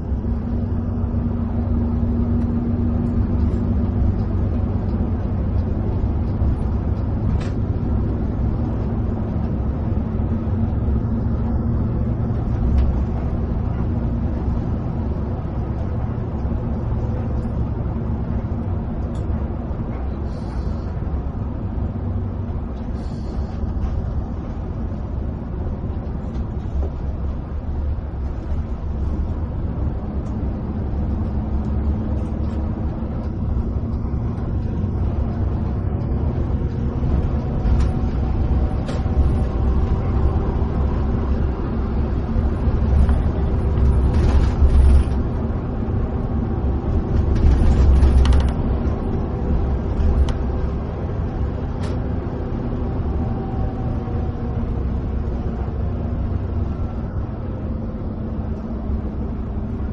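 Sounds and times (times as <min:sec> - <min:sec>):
coach engine and tyre rumble: 0:00.0 - 0:59.9.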